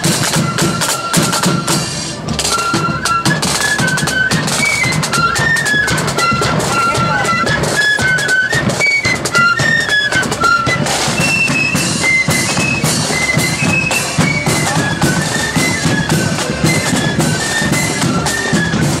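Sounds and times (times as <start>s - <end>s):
flute melody: 0.0s - 19.0s
side drums and bass drum: 0.0s - 19.0s.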